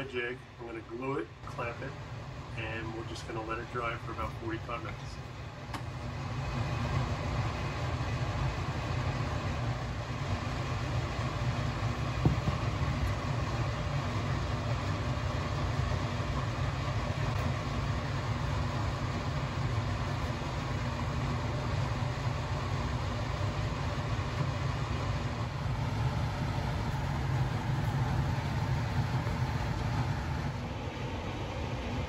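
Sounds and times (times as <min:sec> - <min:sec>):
shop machinery droning: 0:00.0 - 0:32.0.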